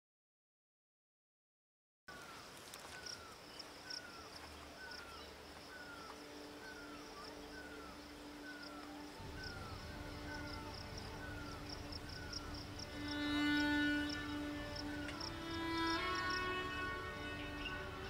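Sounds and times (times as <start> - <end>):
high-pitched insect chirping: 2.8 - 18.0.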